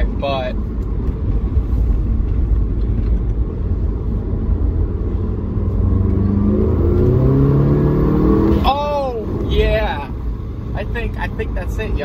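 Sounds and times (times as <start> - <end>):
car engine accelerating: 0.0 - 12.0
road rumble: 0.0 - 12.0.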